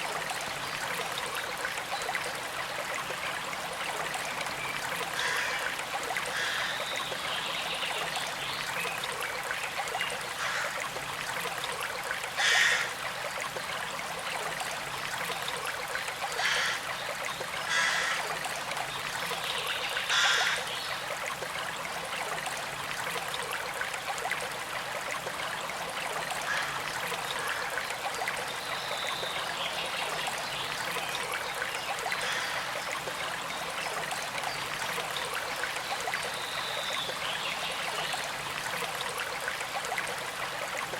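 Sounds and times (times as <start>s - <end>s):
creek trickling: 0.0s - 40.9s.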